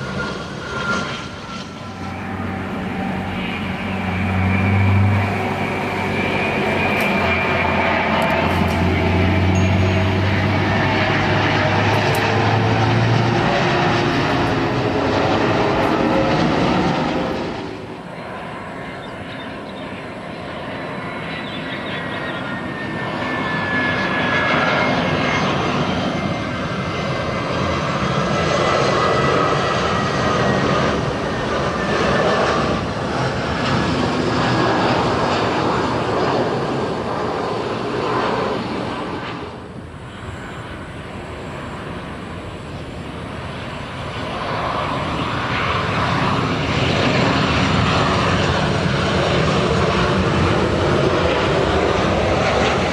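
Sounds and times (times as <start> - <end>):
jet airliner passing overhead: 0.0 - 52.9.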